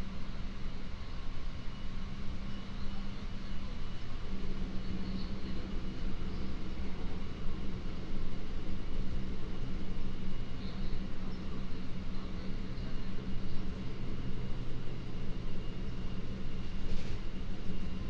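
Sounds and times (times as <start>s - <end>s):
train motor hum: 0.0s - 18.0s.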